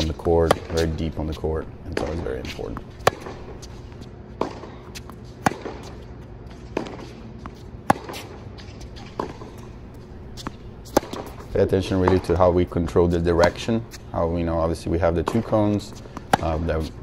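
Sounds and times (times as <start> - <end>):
racket hitting tennis ball: 0.0 - 12.5, 13.3 - 14.1, 15.2 - 17.0
tennis ball bouncing: 0.0 - 12.6, 13.3 - 14.1, 15.2 - 17.0.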